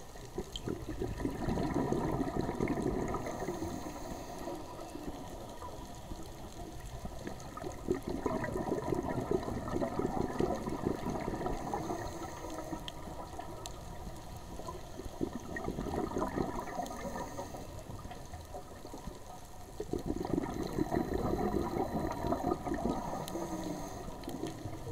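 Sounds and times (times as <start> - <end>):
underwater hiss: 0.0 - 24.9
underwater breath bubbling: 0.2 - 24.9.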